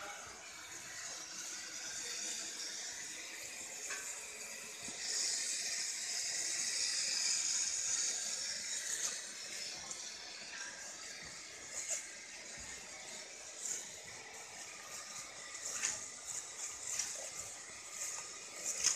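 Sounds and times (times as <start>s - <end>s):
milk boiling with steady hiss: 0.0s - 18.9s.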